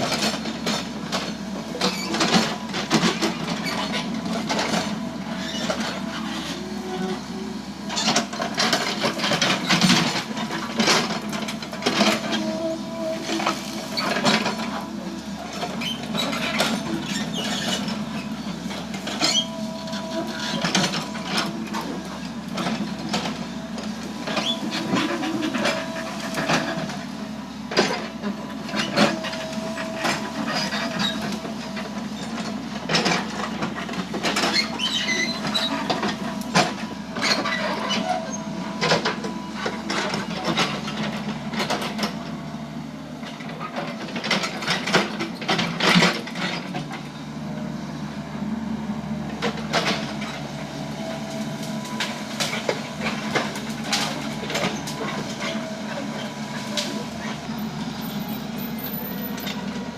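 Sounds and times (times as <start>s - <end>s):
metal clanks from bucket and tracks: 0.0s - 42.4s, 43.2s - 47.7s, 49.3s - 59.9s
excavator engine running: 0.0s - 59.9s.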